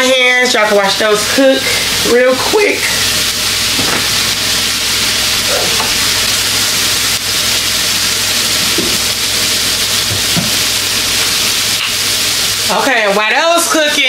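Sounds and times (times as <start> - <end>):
burger patties sizzling on griddle: 0.0 - 14.0.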